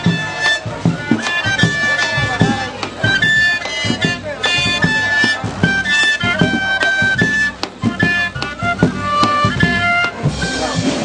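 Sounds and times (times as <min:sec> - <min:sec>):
cane flute melody: 0:00.0 - 0:11.0
steady beating drum: 0:00.0 - 0:11.0.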